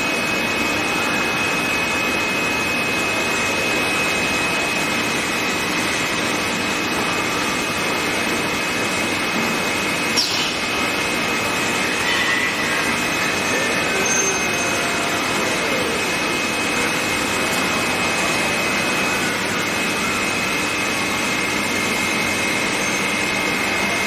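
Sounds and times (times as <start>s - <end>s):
high-pitched machine whine: 0.0s - 24.0s
machine-shop din: 0.0s - 24.0s.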